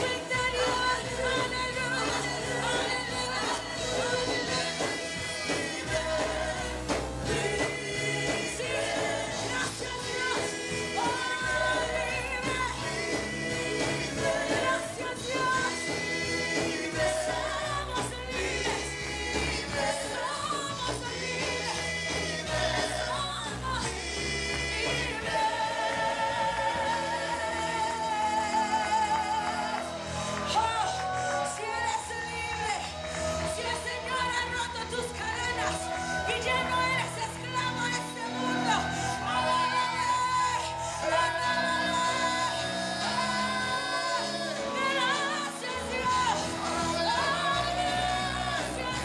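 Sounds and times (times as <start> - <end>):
backing singers: 0.0 - 49.0
electric bass guitar: 0.0 - 49.0
keyboard: 0.0 - 49.0
woman singing into microphone: 0.0 - 49.0.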